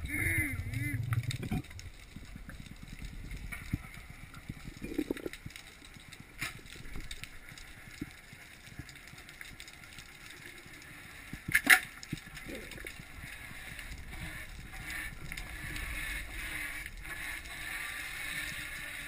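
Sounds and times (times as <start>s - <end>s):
underwater rumble of water: 0.0s - 19.0s.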